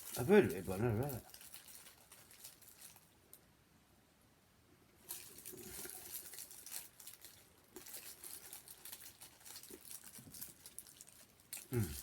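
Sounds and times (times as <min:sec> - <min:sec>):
sandwich wrapper crinkling: 0:00.0 - 0:03.4, 0:05.0 - 0:12.0.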